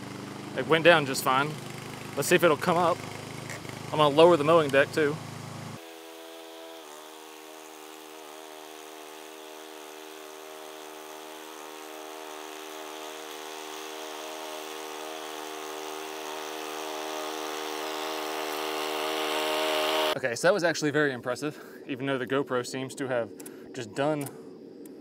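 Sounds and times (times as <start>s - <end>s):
mower gas engine running: 0.0s - 20.2s.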